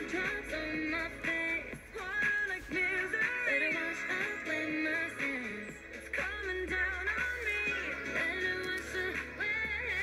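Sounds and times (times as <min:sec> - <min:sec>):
pop song: 0:00.0 - 0:10.0
woman singing: 0:00.0 - 0:10.0.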